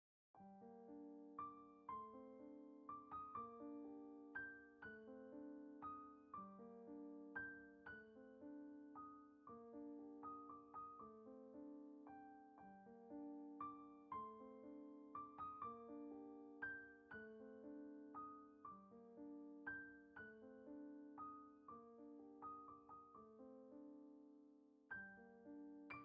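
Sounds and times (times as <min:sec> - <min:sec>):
quiet piano music: 0:00.4 - 0:26.0.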